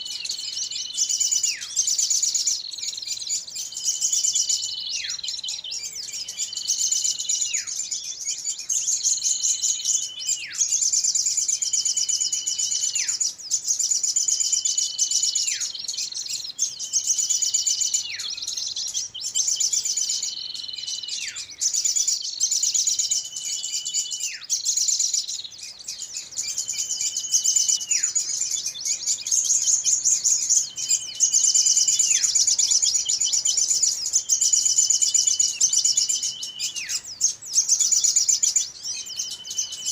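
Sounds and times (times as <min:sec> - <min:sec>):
small birds chattering: 0:00.0 - 0:39.9.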